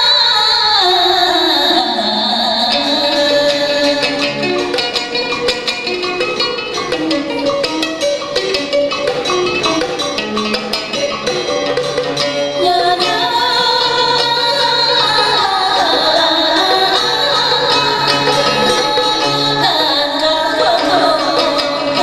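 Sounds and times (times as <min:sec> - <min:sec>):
plucked strings: 0:00.0 - 0:22.0
rapid percussion strikes: 0:03.0 - 0:22.0.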